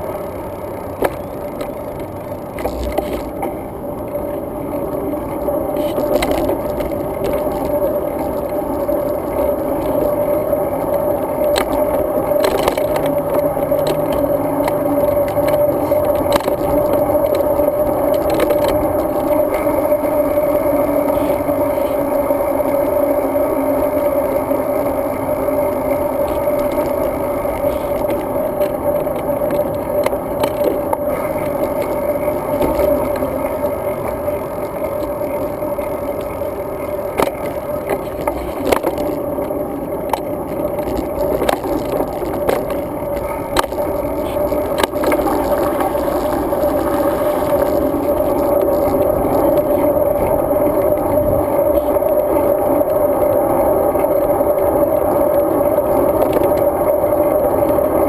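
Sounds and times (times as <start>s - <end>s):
bicycle tyres rolling: 0.0s - 58.0s
bike clicks and rattles: 0.0s - 58.0s
wind noise: 2.6s - 58.0s.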